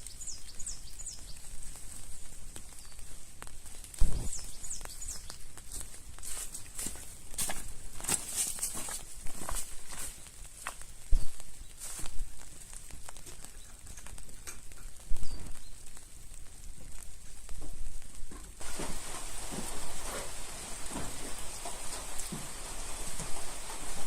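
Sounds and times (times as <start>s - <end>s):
rain hiss: 0.0s - 24.0s.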